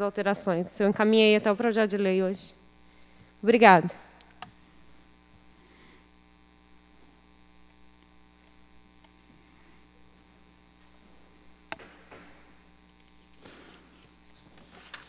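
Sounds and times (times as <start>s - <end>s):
faint mains hum: 0.0s - 15.0s.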